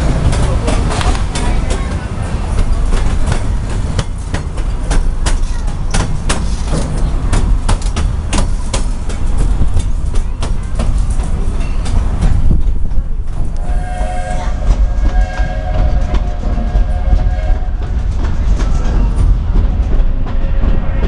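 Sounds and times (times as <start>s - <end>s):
train car rumbling on track: 0.0s - 21.0s.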